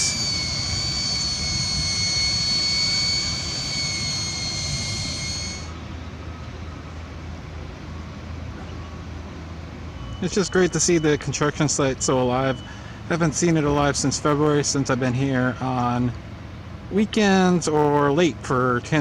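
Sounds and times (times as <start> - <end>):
high-pitched mechanical whine: 0.0 - 19.0.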